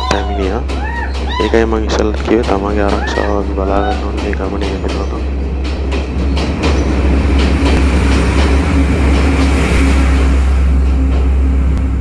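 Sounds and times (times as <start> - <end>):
wheels clicking over rail joints: 0.0 - 11.9
train rumbling in tunnel: 0.0 - 12.0.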